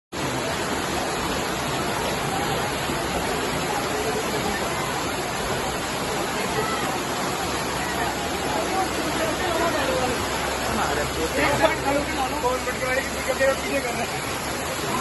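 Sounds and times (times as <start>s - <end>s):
rainwater rushing: 0.1s - 15.0s.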